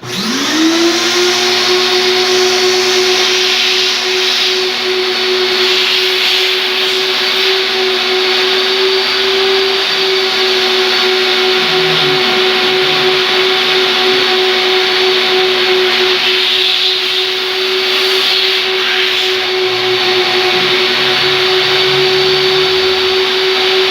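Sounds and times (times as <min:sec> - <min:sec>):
industrial vacuum cleaner running: 0:00.0 - 0:23.9.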